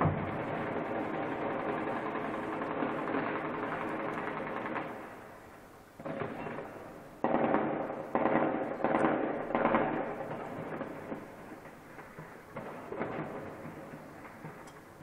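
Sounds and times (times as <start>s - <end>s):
distant gunfire and blasts: 0.0s - 5.3s, 6.0s - 15.0s.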